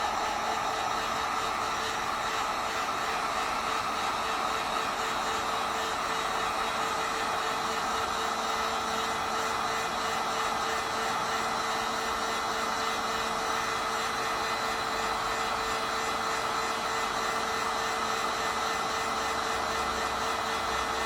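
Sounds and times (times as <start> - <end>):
heat gun blowing air: 0.0 - 21.0.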